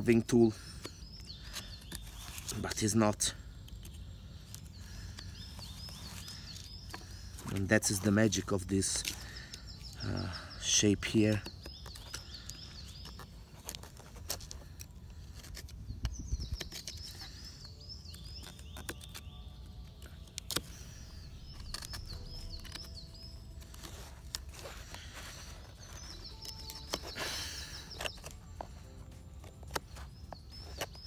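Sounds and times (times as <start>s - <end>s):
knife carving wood: 0.0s - 31.0s
songbird chirping: 0.0s - 31.0s.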